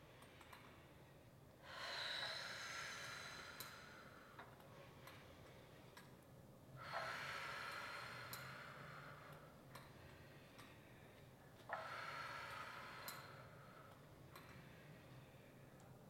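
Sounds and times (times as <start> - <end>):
person breathing: 0.0 - 5.9, 6.8 - 15.8.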